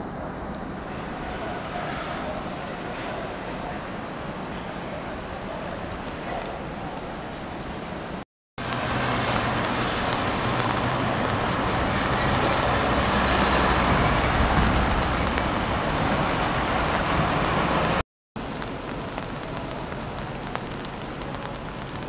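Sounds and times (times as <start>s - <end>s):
electric train rumbling on viaduct: 0.0s - 22.0s.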